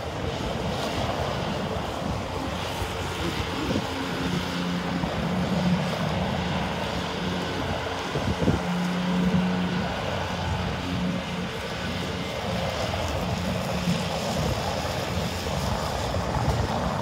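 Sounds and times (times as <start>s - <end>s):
road traffic: 0.0s - 17.0s
wind rumbling on microphone: 0.0s - 17.0s.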